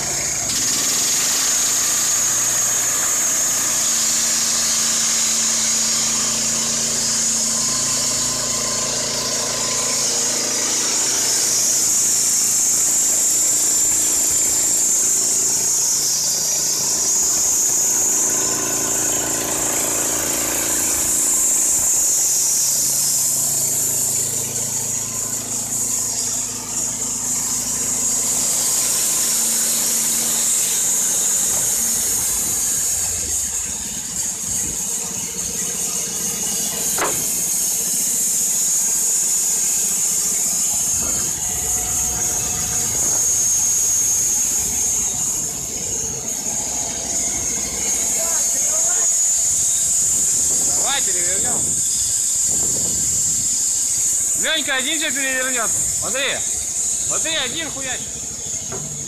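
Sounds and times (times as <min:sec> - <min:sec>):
petrol engine running under load: 0:00.0 - 0:59.0
saw blade high-pitched whine: 0:00.0 - 0:59.0.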